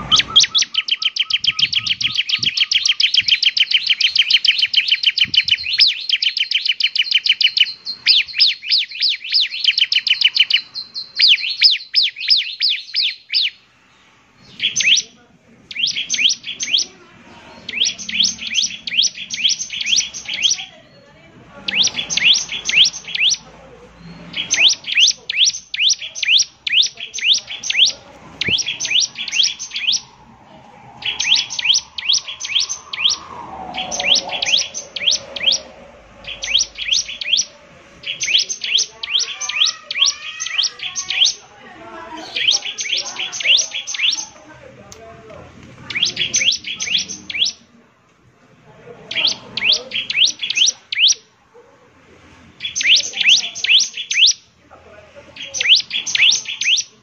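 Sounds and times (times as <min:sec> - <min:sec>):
bird singing high sharp chirps: 0:00.0 - 0:13.7, 0:14.4 - 0:15.1, 0:15.7 - 0:16.9, 0:17.5 - 0:21.0, 0:21.7 - 0:41.4, 0:42.3 - 0:44.4, 0:45.9 - 0:47.6, 0:49.1 - 0:51.2, 0:52.6 - 0:54.4, 0:55.4 - 0:57.0.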